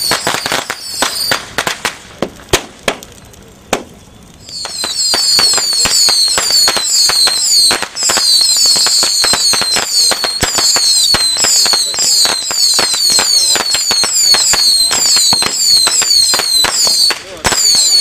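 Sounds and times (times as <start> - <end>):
firecrackers popping: 0.0 - 18.0.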